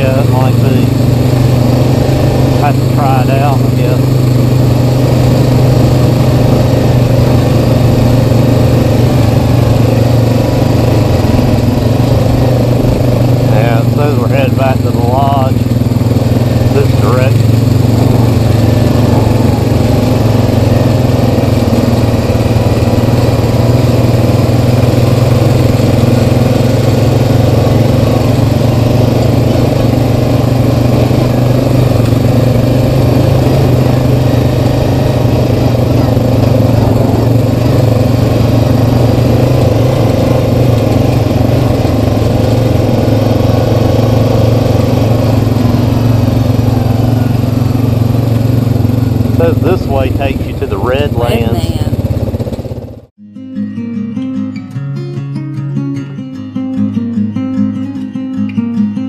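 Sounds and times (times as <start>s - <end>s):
atv engine running: 0.0s - 53.1s.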